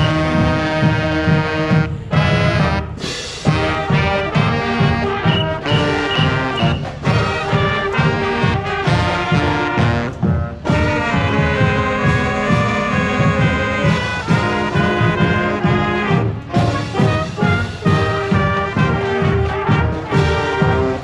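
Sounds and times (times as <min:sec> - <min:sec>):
brass horns playing a tune: 0:00.0 - 0:21.0
steady drum beat: 0:00.0 - 0:21.0.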